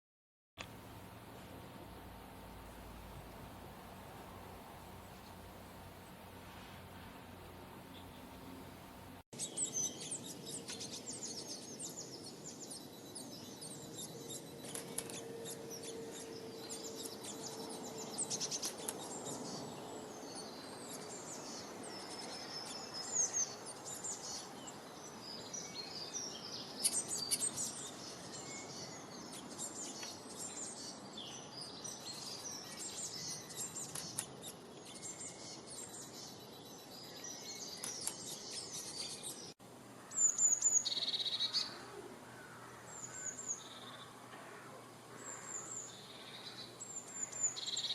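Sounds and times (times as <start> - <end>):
low background noise: 0.6 - 47.9
small birds chirping and twittering: 0.8 - 47.9.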